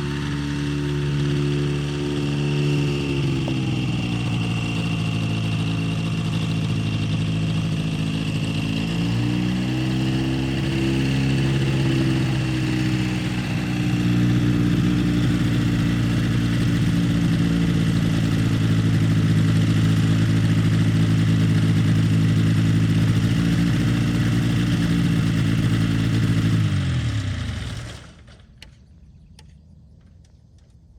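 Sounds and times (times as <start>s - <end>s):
light aircraft engine running: 0.0s - 30.9s.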